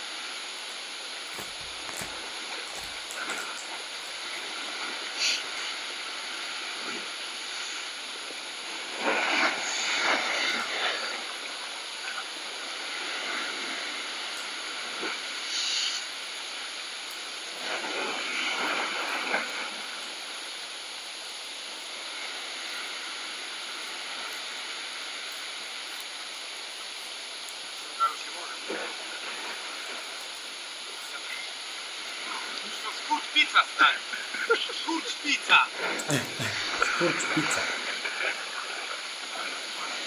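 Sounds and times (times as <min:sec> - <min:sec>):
sea surf against rocks: 0:00.0 - 0:40.0.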